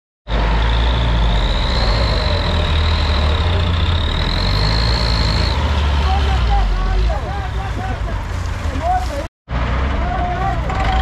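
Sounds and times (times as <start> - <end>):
truck engine rumble: 0.3 - 11.0.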